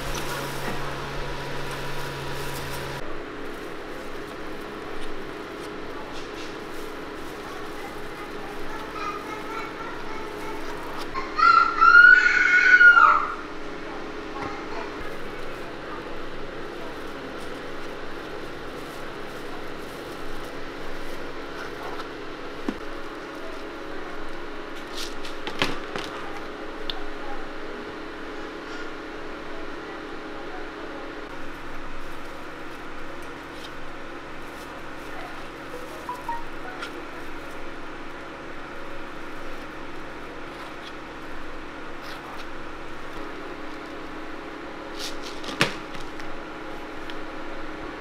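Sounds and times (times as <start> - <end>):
hum of shop equipment: 0.0 - 48.0.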